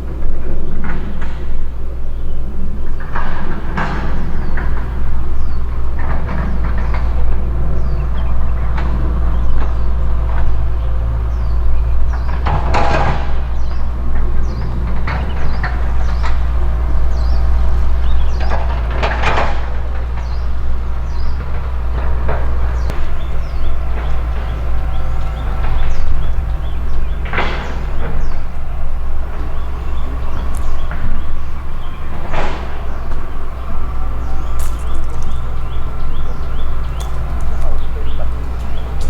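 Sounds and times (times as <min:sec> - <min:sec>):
bird chirps: 0:00.0 - 0:39.0
steady low rumble: 0:00.0 - 0:39.0.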